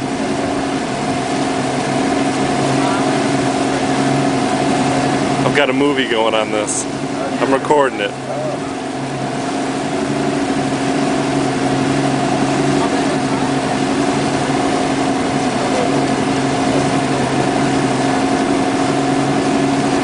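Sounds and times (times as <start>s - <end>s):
constant rushing noise: 0.0s - 20.0s
motorboat engine running: 0.0s - 20.0s.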